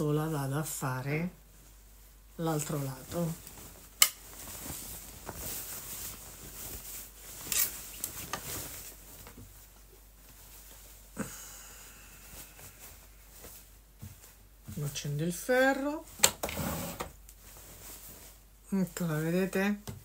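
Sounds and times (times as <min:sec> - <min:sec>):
fabric rustling: 0:00.0 - 0:20.0.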